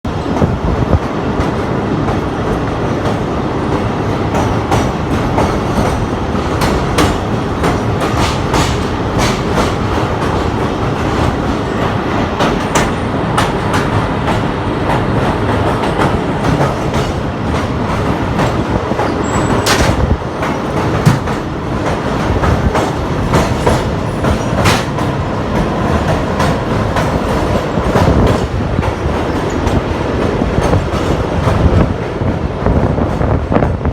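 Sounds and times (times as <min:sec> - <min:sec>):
clickety-clack at rail joints: 0:00.1 - 0:33.9
train wheels rumbling on rails: 0:00.1 - 0:33.9.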